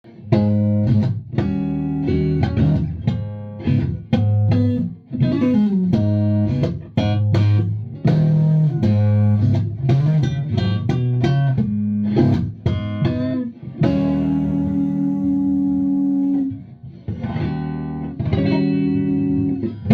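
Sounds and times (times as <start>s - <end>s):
electric guitar playing: 0.0s - 19.9s.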